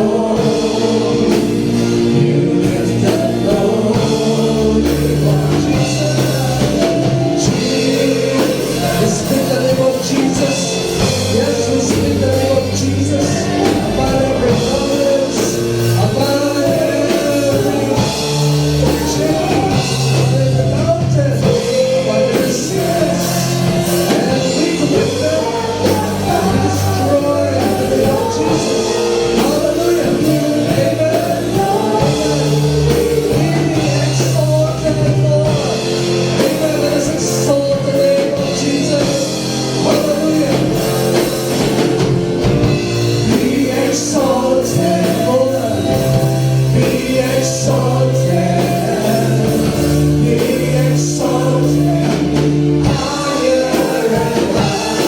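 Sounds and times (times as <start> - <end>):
person singing: 0.0 - 55.0
steady drum beat: 0.0 - 55.0
sustained bass notes: 0.0 - 55.0
worship band music: 0.0 - 55.0.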